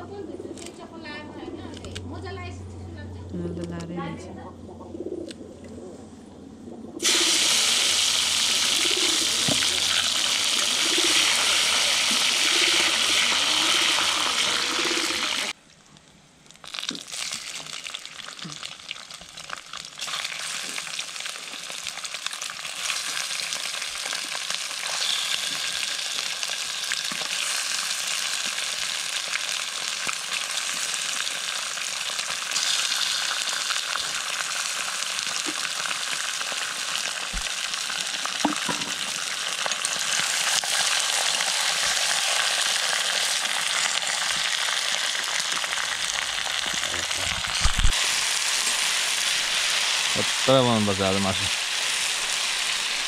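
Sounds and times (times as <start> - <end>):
food sizzling in a pan: 7.0 - 15.6, 16.6 - 53.0.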